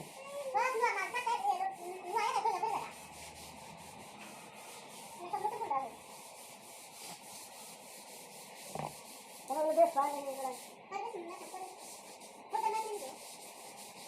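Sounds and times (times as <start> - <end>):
sandpaper rubbing on wood: 0.0 - 14.0.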